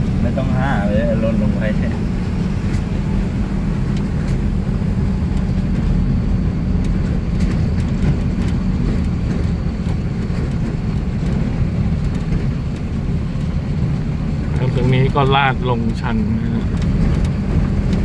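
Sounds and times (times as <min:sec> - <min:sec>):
vehicle engine and road hum: 0:00.0 - 0:18.0.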